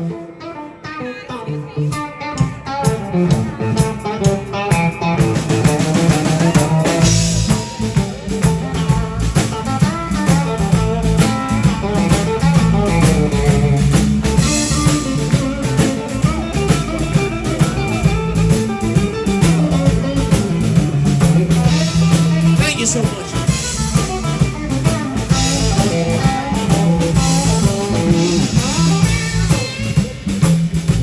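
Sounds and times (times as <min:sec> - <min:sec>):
electric guitar: 0:00.0 - 0:31.0
bass line: 0:01.6 - 0:31.0
drum kit steady beat: 0:02.8 - 0:31.0.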